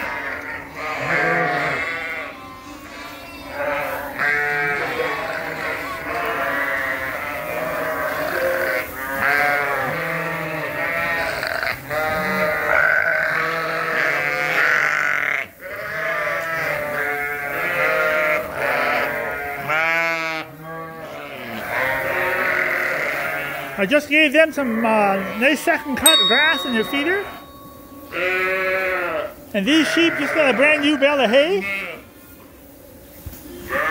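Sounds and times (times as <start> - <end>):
sheep bleating: 0.0 - 23.8, 24.6 - 32.1.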